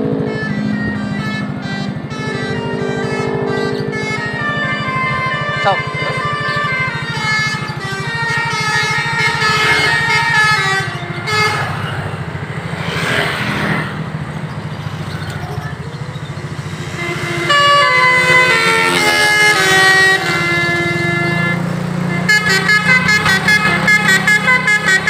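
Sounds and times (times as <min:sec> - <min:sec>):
musical bus horn playing a tune: 0:00.0 - 0:12.5, 0:16.7 - 0:25.0
bus engine running: 0:00.0 - 0:25.0.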